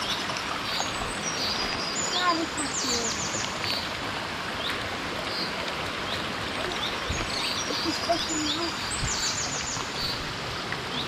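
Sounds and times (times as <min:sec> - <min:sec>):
birds chirping: 0:00.0 - 0:03.9, 0:04.6 - 0:11.0
running water: 0:00.0 - 0:11.0.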